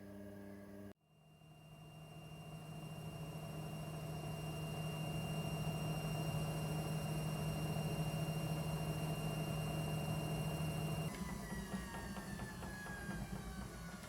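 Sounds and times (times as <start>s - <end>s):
faint high whine: 0.0s - 11.6s
washing machine humming: 0.0s - 14.0s.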